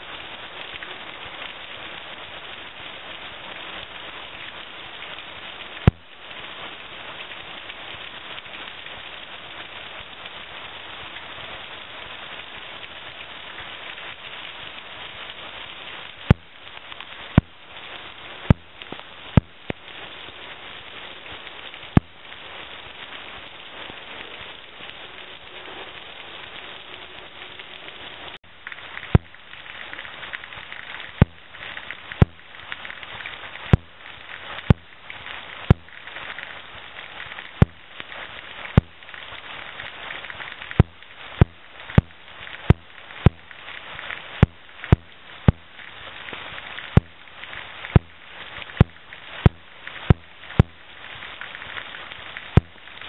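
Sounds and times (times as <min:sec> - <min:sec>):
heavy rain falling: 0:00.0 - 0:53.0
large raindrops tapping: 0:00.0 - 0:53.0.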